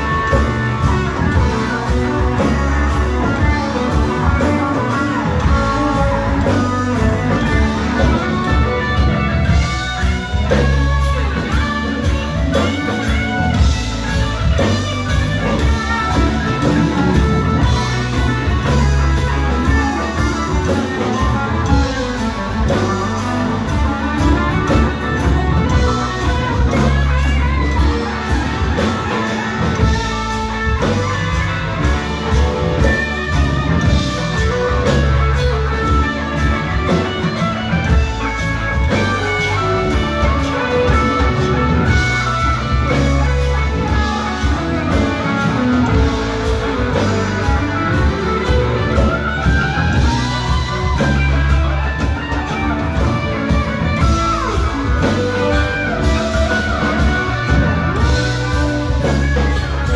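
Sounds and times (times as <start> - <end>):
bass guitar: 0.0 - 59.9
drum kit: 0.0 - 59.9
electric guitar lead: 0.0 - 59.9
keyboards: 0.0 - 59.9.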